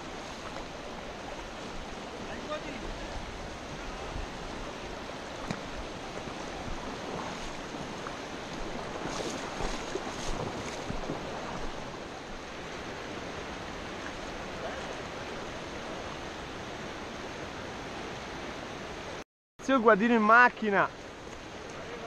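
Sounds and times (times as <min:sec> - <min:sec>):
river rushing over stones: 0:00.0 - 0:19.2.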